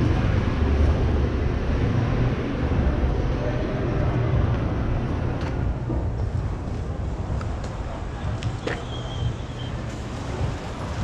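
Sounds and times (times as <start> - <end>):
road noise hiss: 0.0 - 11.0
vehicle engine rumble: 0.0 - 11.0.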